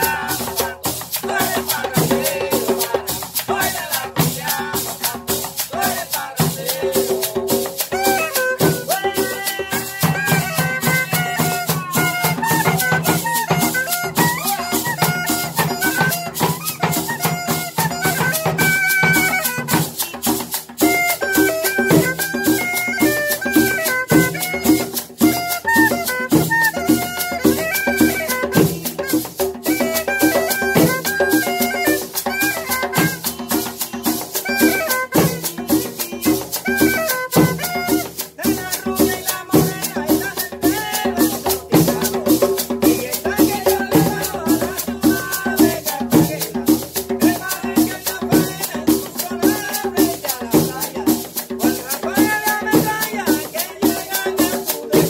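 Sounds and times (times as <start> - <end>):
hand drums: 0.0 - 55.0
metal tube shaker: 0.0 - 55.0
cane flute melody: 6.7 - 55.0.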